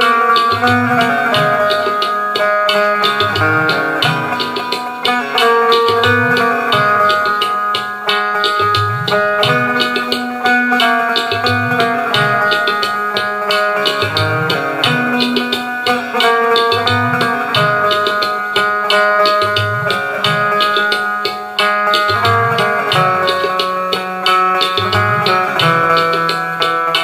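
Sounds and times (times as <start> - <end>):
banjo plucked melody: 0.0 - 27.0
drum beat with low thumps: 0.0 - 27.0.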